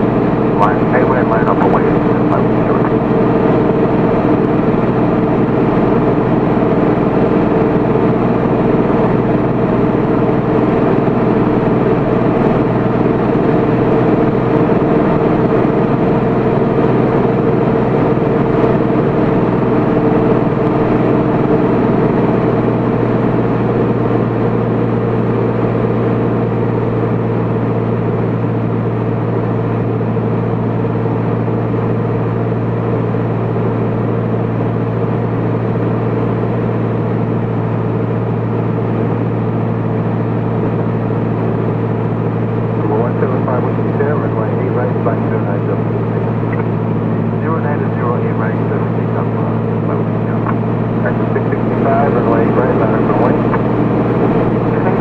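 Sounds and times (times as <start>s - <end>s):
aircraft engine and propeller drone: 0.0s - 55.0s
low hum: 0.0s - 55.0s.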